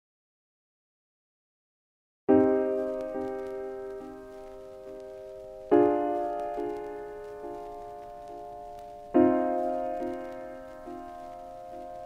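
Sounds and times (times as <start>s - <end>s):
slow piano chords: 2.3s - 12.0s.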